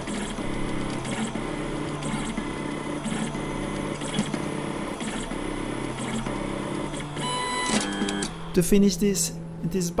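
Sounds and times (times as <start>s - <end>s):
stepper motors whirring: 0.0s - 8.5s.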